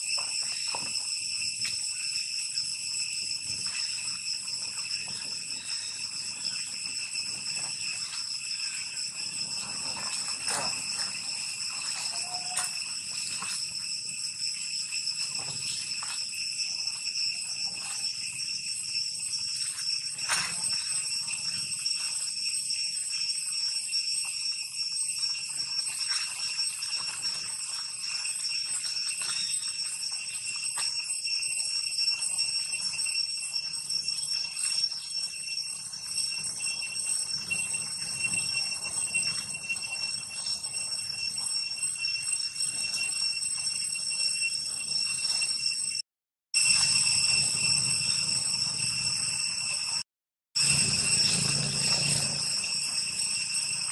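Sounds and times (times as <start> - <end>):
cicadas buzzing: 0.0 - 42.2, 50.6 - 53.9.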